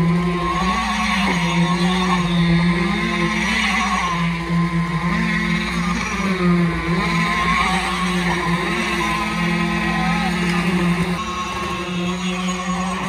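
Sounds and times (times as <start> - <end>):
pump engine running: 0.0 - 13.0.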